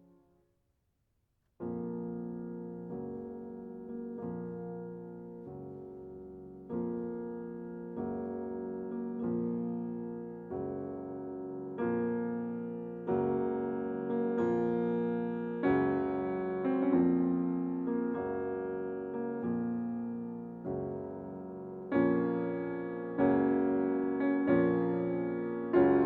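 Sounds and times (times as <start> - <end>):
slow piano chords: 0.0 - 0.2, 1.6 - 26.0.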